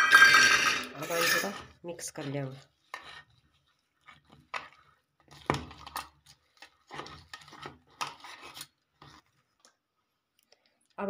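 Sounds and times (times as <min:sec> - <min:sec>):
fingers scraping steel bowl: 0:00.0 - 0:09.3
wet squishing of mashed food: 0:01.7 - 0:10.9.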